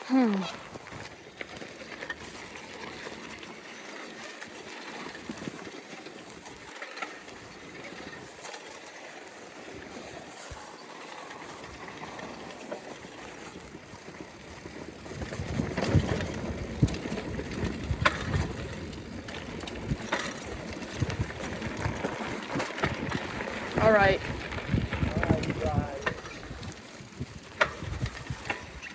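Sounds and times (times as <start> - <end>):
bicycle tyres rushing on dirt: 0.0 - 28.9
bicycle rattles and knocks: 0.1 - 28.9.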